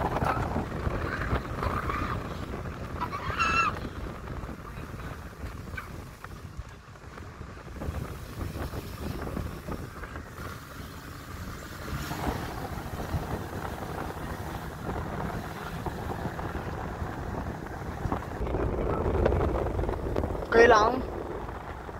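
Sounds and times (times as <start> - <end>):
car road and engine noise: 0.0 - 21.9
wind buffeting microphone: 0.0 - 21.9.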